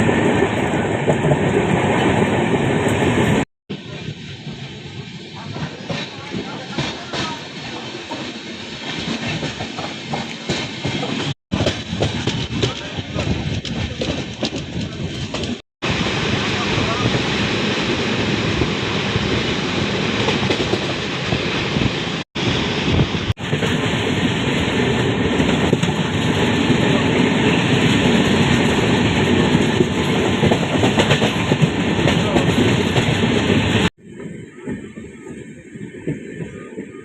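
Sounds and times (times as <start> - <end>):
train rumbling on track: 0.0 - 37.0.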